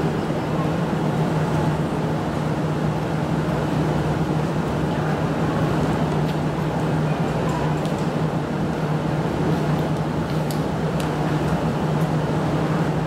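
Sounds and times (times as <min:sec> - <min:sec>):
train mechanical hum: 0:00.0 - 0:13.0.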